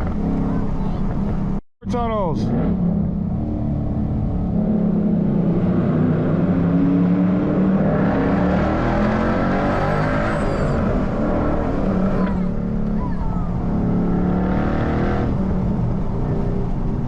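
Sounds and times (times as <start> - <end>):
car engine revving: 2.4 - 17.0.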